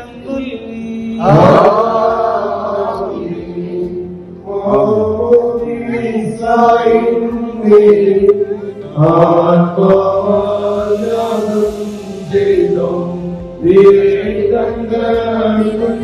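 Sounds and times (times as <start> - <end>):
liturgical chanting: 0.0 - 16.0.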